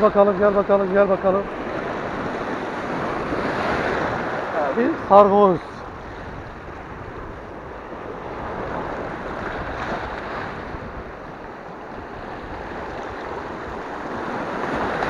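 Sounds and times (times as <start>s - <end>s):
sea waves breaking on rocks: 0.0s - 15.0s.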